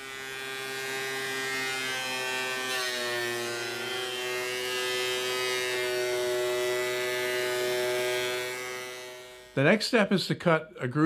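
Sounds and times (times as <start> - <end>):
thickness planer motor whine: 0.0 - 9.6.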